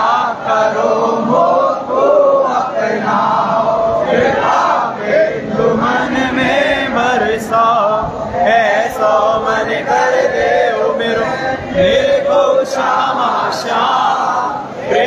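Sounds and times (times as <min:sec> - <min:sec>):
group chanting devotional song: 0:00.0 - 0:15.0.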